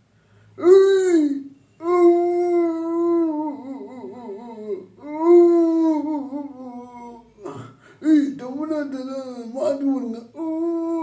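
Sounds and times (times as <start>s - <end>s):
man making howling calls: 0.6s - 11.0s.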